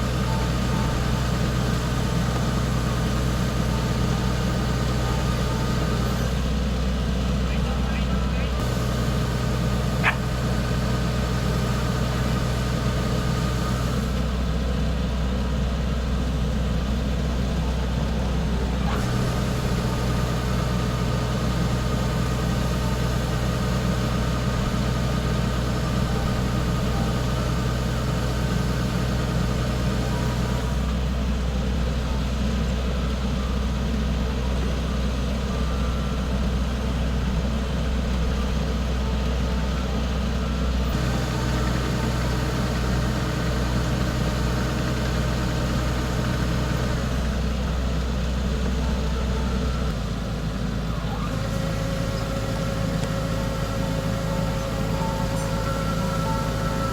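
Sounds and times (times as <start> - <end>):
diesel engine humming: 0.0 - 56.9
higher engine hum: 0.0 - 56.9.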